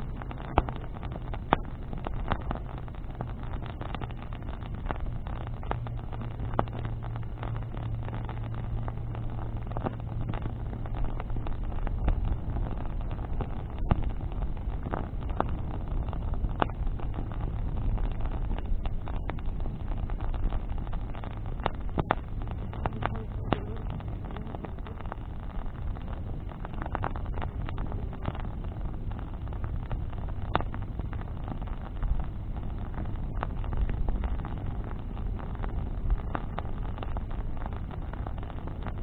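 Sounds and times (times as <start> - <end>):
bonfire crackling: 0.0 - 39.0
sharp pops and snaps: 0.0 - 39.0
steady low rumble: 0.0 - 39.0.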